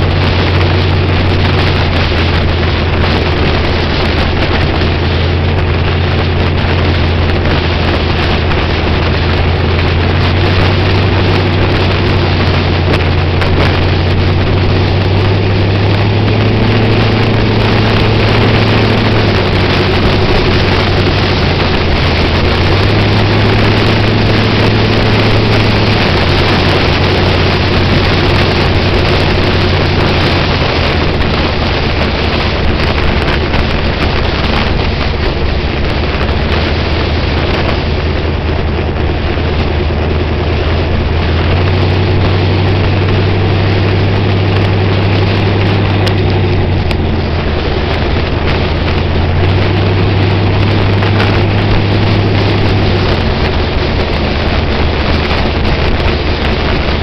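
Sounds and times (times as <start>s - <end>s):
car engine cruising: 0.0s - 57.0s
wind noise on microphone: 0.0s - 57.0s.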